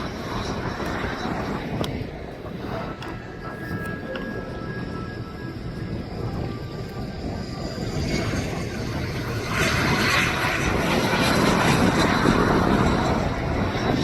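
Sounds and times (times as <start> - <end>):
passing aircraft engine: 0.0 - 14.0.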